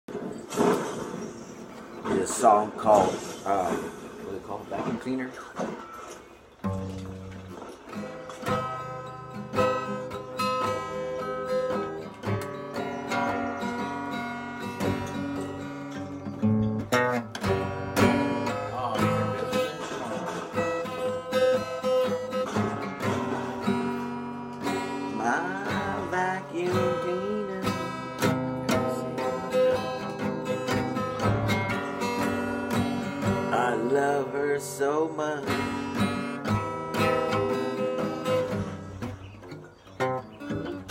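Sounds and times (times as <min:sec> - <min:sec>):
acoustic guitar strumming: 0:00.1 - 0:40.9.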